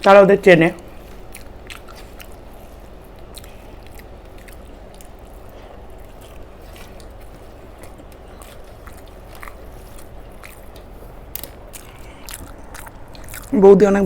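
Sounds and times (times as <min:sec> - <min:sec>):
low room hum: 0:00.0 - 0:14.0
chewing with wet clicks: 0:00.8 - 0:13.6.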